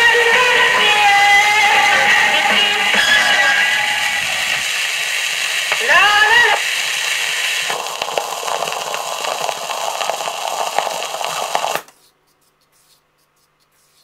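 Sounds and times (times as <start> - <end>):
record surface hiss and crackle: 0.0 - 14.0.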